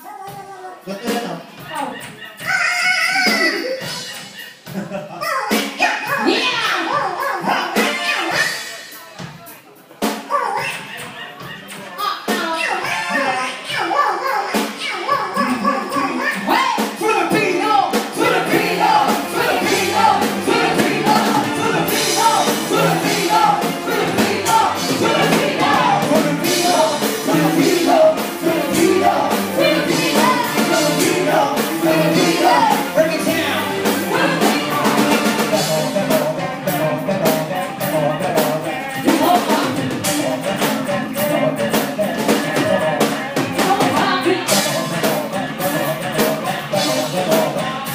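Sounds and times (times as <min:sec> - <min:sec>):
live rock band playing: 0:00.1 - 0:13.8, 0:14.5 - 0:47.9
steady drum beat: 0:00.3 - 0:13.2, 0:14.6 - 0:47.9.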